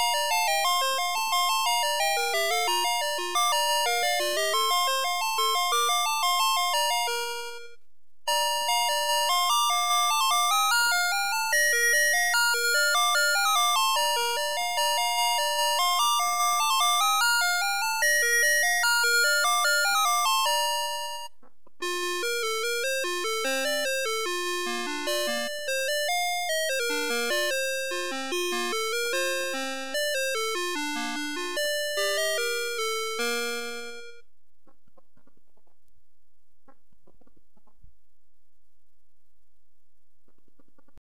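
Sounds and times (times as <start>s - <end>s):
toy electronic beeping melody: 0.0s - 34.2s.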